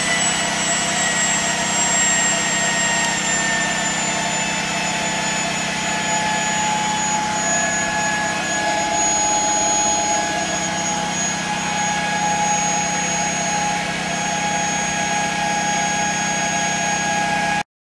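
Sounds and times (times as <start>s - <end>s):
turbine high whine: 0.0s - 17.7s.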